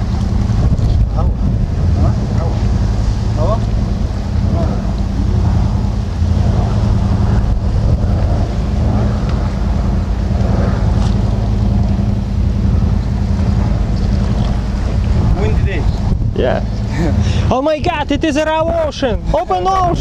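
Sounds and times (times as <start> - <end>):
boat engine running: 0.0 - 20.0
wind on microphone: 0.0 - 20.0.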